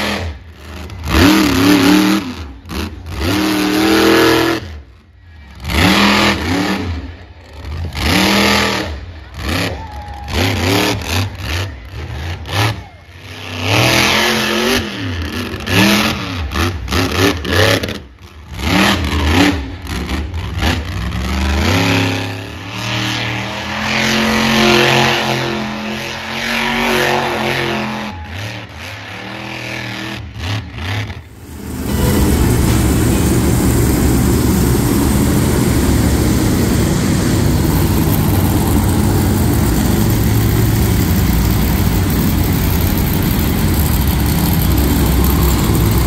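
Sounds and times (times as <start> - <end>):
truck engine revving hard: 0.0 - 4.8, 5.6 - 9.7, 10.3 - 46.0.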